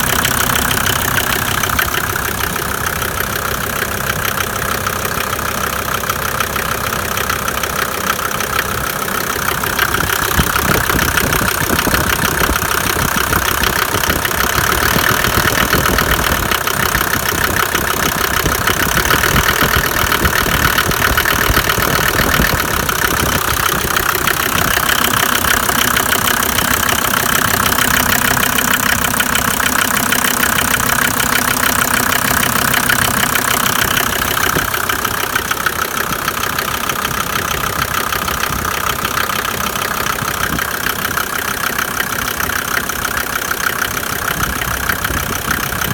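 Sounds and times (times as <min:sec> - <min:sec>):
diesel engine idling unevenly: 0:00.0 - 0:45.9
engine knocking clatter: 0:00.0 - 0:45.9.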